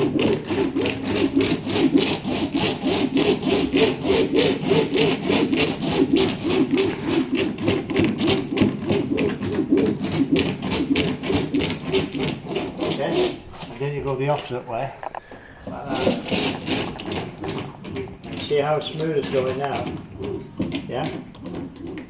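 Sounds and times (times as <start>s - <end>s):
roller rasping over wet resin: 0.0s - 22.0s.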